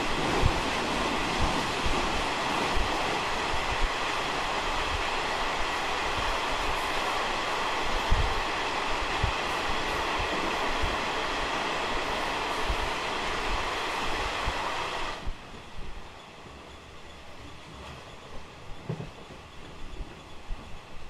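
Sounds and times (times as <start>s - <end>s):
train rumble and rail noise: 0.0s - 21.0s.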